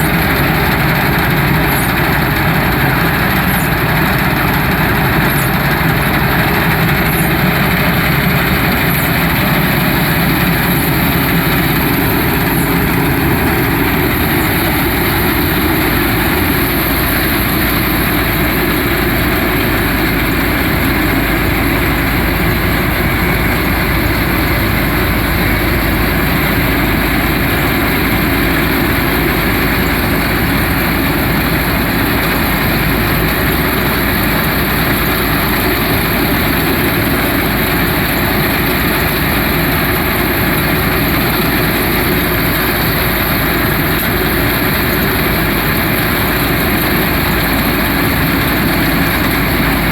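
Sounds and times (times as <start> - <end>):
combine harvester droning: 0.0 - 49.9.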